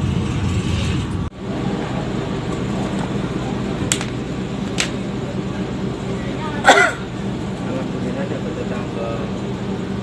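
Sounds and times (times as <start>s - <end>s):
train carriage hum: 0.0s - 10.0s.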